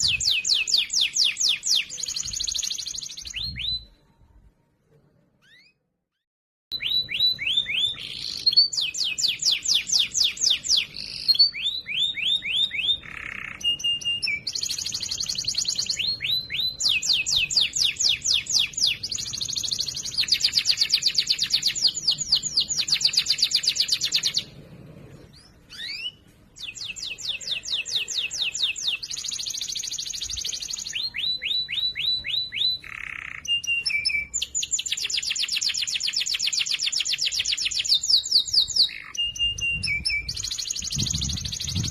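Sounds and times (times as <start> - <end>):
canary singing trills: 0.0 - 4.0, 5.4 - 41.9.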